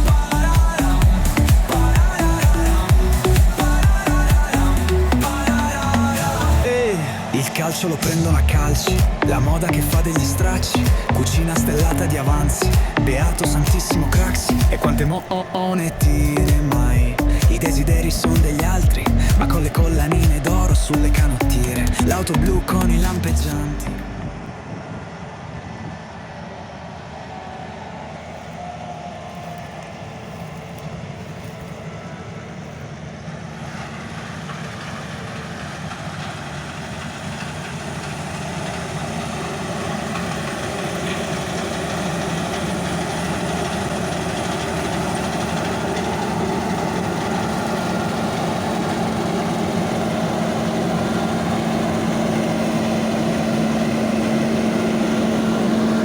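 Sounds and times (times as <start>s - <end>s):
heavy farm machinery running: 0.0s - 56.0s.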